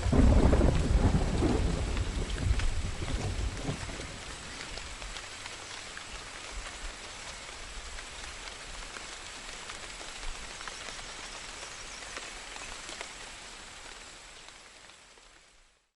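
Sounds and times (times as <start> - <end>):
raindrop ticks: 0.0 - 13.2
rain pattering: 0.0 - 15.9.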